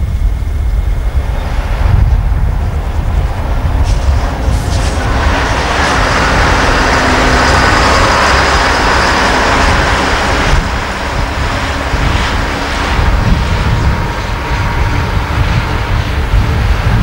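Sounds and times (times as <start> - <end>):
dump truck driving past: 0.4 - 17.0.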